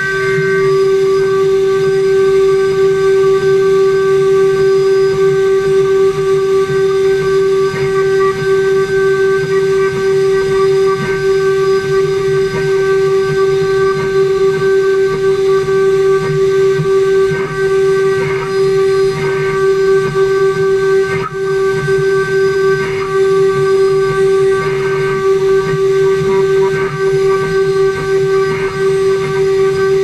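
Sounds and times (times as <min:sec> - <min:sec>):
router spindle high whine: 0:00.0 - 0:30.0.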